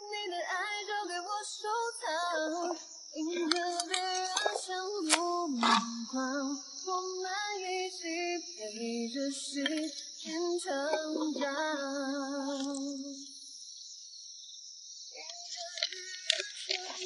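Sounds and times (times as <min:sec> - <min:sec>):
high voice singing unaccompanied: 0:00.0 - 0:13.3, 0:15.2 - 0:17.0.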